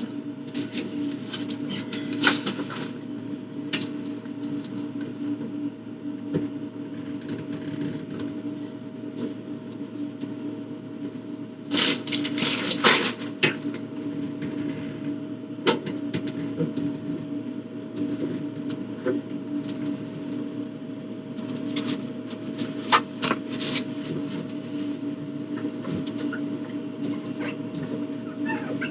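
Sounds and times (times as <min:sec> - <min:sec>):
refrigerator low hum: 0:00.0 - 0:28.9.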